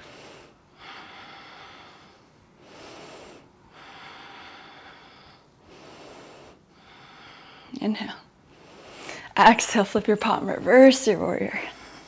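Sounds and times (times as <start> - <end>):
woman breathing slowly: 0.0 - 9.4, 11.5 - 12.0.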